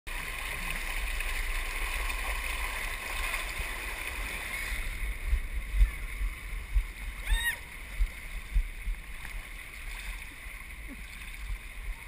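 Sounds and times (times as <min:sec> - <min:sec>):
water rushing down a slide: 0:00.1 - 0:12.0
low rumble: 0:00.2 - 0:12.0.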